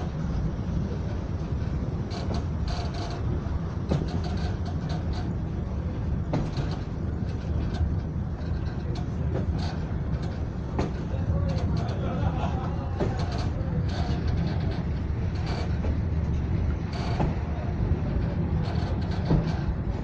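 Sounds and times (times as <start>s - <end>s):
train rumbling: 0.0s - 20.0s
wheels clicking over track: 1.4s - 20.0s.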